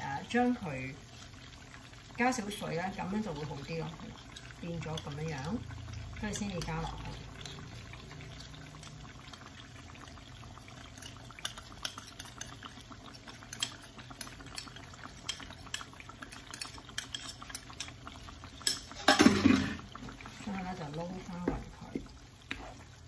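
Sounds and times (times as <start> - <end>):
sauce bubbling and spitting in wok: 0.0 - 23.0.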